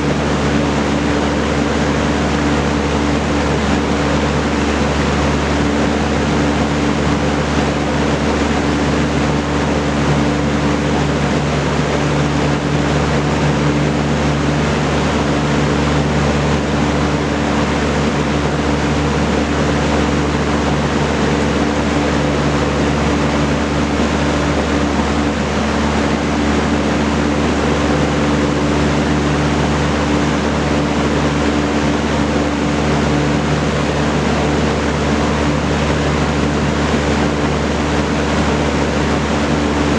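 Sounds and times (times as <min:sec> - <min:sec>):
box fan air rushing: 0:00.0 - 0:39.9
fan motor hum: 0:00.0 - 0:39.9.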